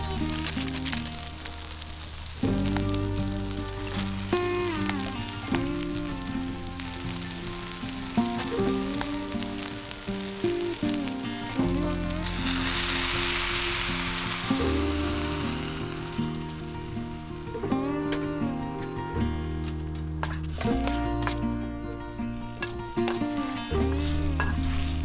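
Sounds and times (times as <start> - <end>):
background music: 0.0 - 25.0
food sizzling in a pan: 0.0 - 25.0.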